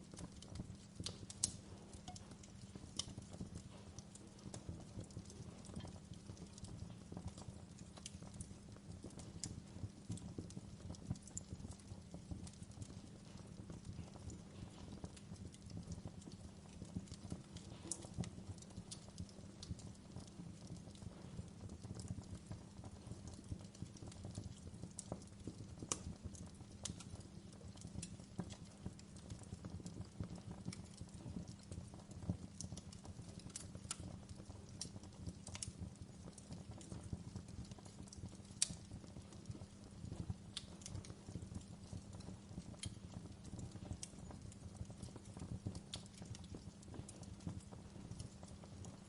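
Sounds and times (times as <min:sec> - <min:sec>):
fire popping: 0:00.0 - 0:49.0
wood fire crackling: 0:00.0 - 0:49.0.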